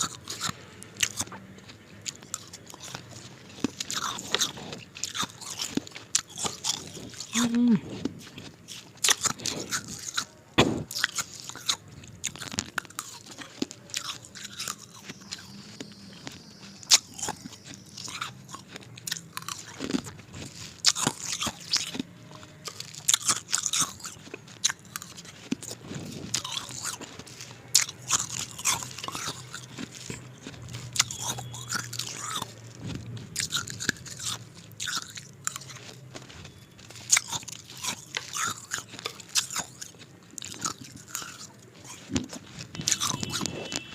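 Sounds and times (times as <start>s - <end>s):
ice being bitten and crunched: 0.0s - 43.9s.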